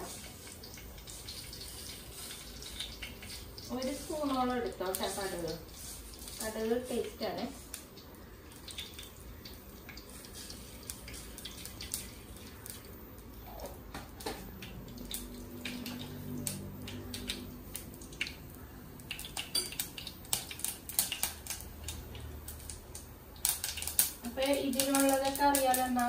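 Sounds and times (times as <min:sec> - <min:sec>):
seeds sizzling in oil: 0:00.0 - 0:26.0.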